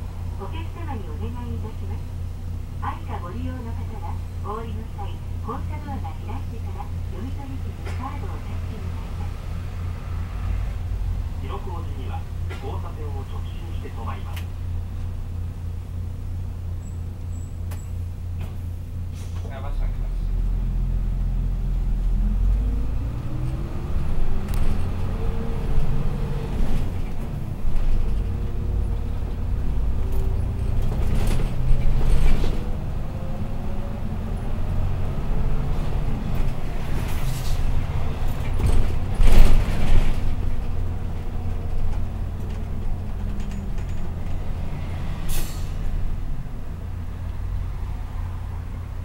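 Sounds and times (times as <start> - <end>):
bus diesel engine rumble and whine: 0.0 - 49.0.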